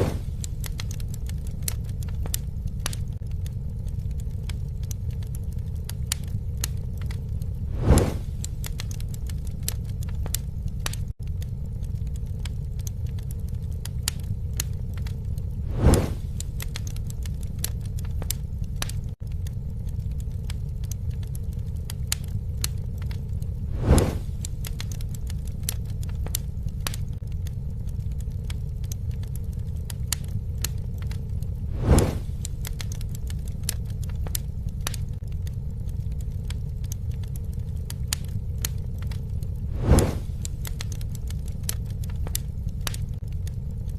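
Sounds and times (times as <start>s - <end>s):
campfire crackling and popping: 0.0s - 43.9s
low roar of flames: 0.0s - 43.9s.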